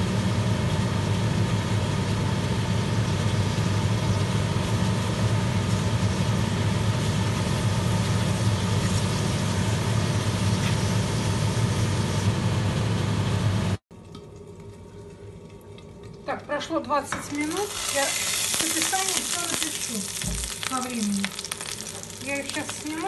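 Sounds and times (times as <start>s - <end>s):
low mechanical hum: 0.0s - 23.0s
patties frying in oil: 0.2s - 12.5s, 14.1s - 23.0s.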